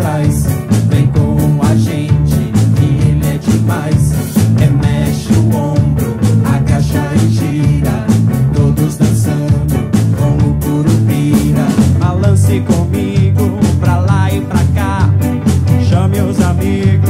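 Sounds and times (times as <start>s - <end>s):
man singing: 0.0s - 17.0s
ska-rock band music: 0.0s - 17.0s.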